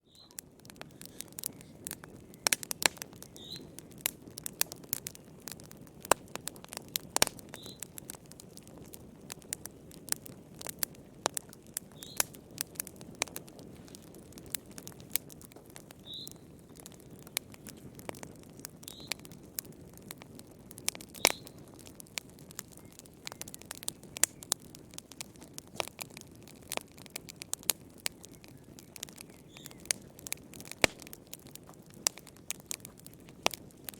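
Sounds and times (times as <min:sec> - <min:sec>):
low rumble of flames: 0:00.0 - 0:33.9
wood fire crackling: 0:00.0 - 0:33.9.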